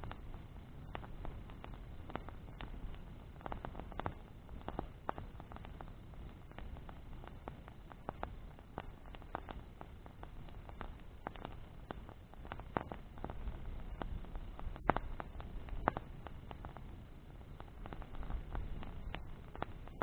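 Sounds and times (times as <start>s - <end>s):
bonfire crackling: 0.0s - 20.0s
fire popping: 0.0s - 20.0s
low steady rumble: 0.0s - 20.0s.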